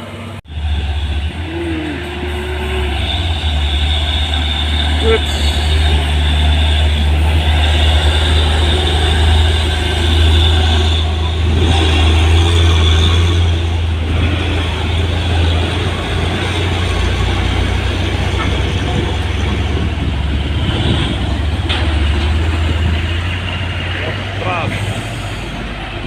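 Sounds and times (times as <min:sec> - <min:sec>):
diesel truck engine drone: 0:00.0 - 0:26.0.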